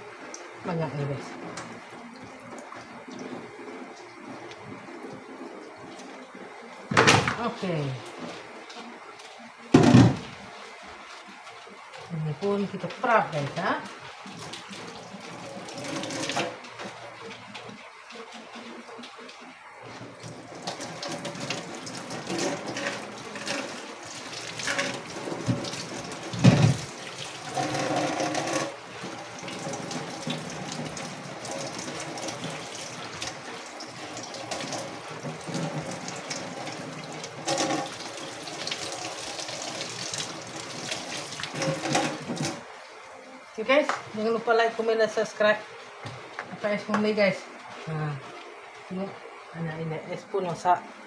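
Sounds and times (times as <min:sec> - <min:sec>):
water splashing: 0:00.0 - 0:44.3.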